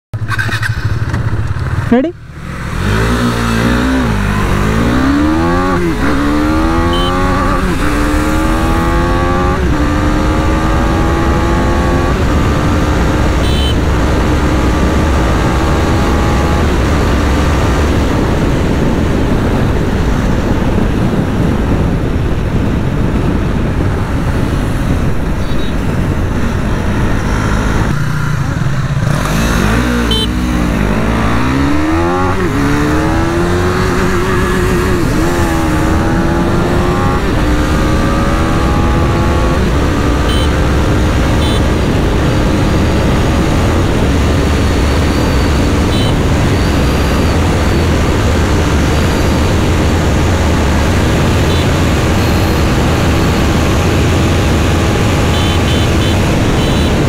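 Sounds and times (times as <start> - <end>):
motorcycle engine accelerating: 0.1 - 57.0
wind rush: 2.4 - 55.3.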